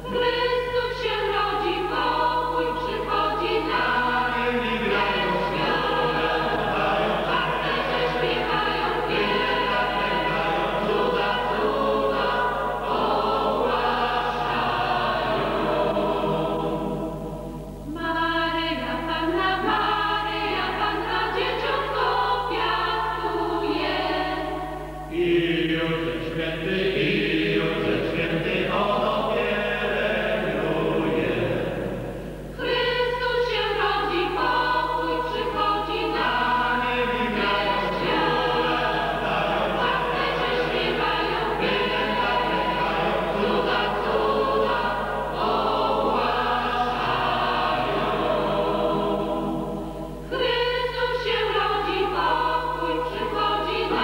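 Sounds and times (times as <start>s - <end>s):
mixed choir singing a carol: 0.0s - 54.0s.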